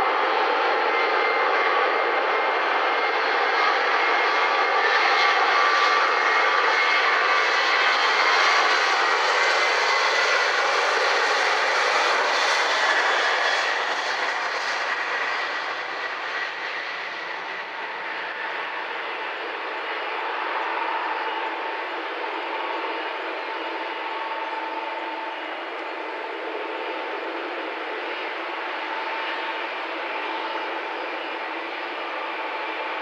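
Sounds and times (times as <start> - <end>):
airliner engines running: 0.0 - 33.0
faint high engine whine: 0.0 - 33.0.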